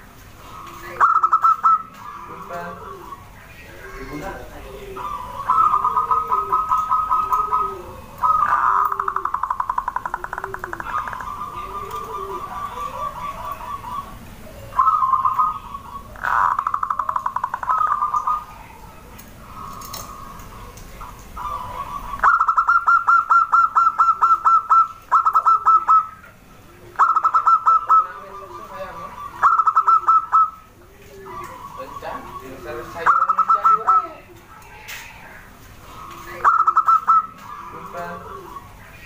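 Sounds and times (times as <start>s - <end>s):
dove trilled cooing: 0.0s - 39.0s.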